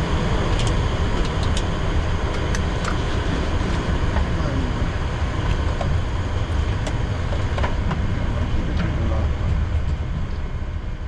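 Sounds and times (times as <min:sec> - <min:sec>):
low rumble and hiss in cockpit: 0:00.0 - 0:11.0.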